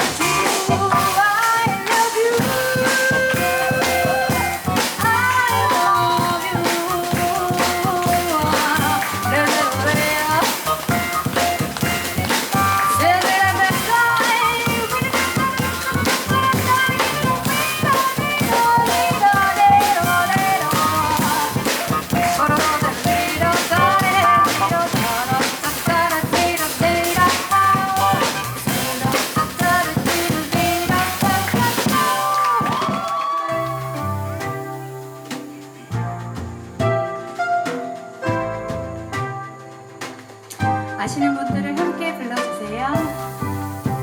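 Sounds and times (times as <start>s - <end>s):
double bass: 0.0s - 1.3s, 2.4s - 32.0s, 33.7s - 35.0s, 40.5s - 44.0s
drum kit keeping time: 0.0s - 44.0s
piano: 0.0s - 44.0s.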